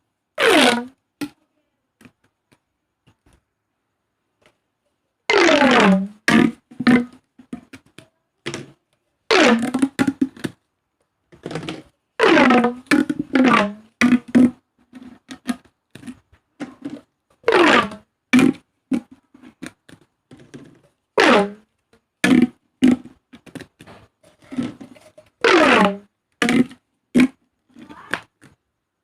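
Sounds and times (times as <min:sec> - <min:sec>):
plastic pop tubes popping: 0:00.4 - 0:01.4, 0:05.3 - 0:10.7, 0:11.3 - 0:28.7.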